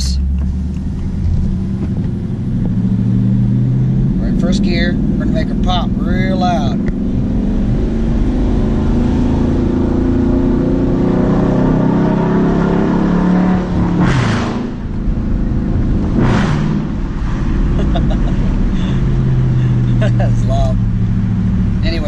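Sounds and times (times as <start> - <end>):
exhaust crackling and popping: 0.0 - 12.4, 13.0 - 22.0
car engine accelerating: 0.0 - 22.0.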